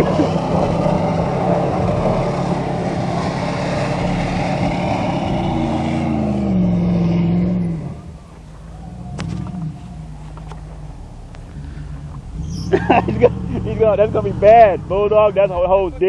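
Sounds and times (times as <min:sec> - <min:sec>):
pickup truck engine revving: 0:00.0 - 0:16.0.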